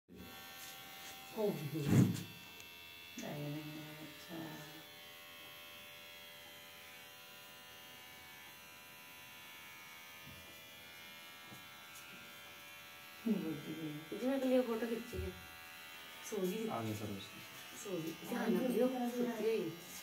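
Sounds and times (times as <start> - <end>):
electric hair clipper buzzing: 0.2 - 20.0.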